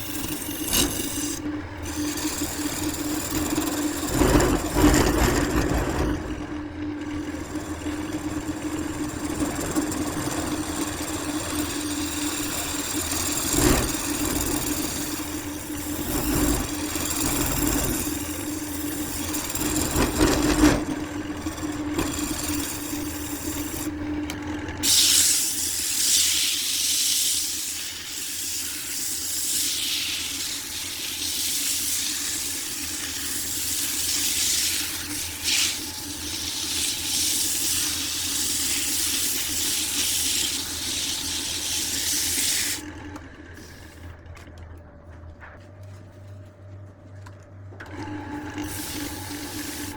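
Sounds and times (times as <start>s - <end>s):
wood lathe humming: 0.0s - 44.6s, 47.8s - 49.9s.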